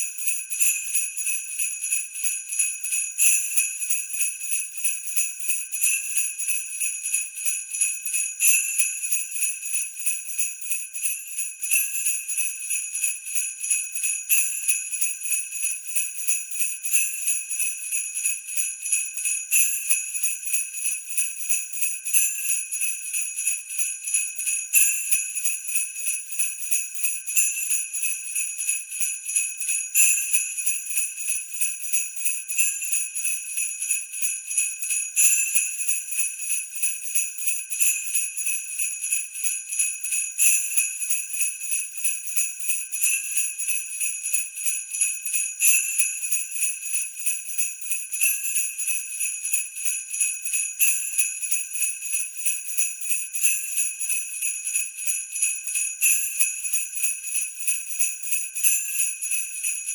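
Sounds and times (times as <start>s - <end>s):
sleigh bells jingling: 6.8s - 59.9s.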